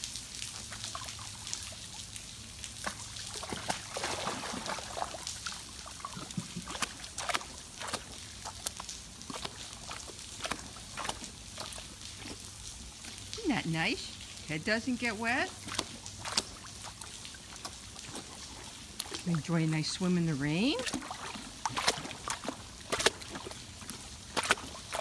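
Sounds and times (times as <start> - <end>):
rain hissing on water: 0.0 - 25.0
water sloshing and splashing: 0.0 - 25.0.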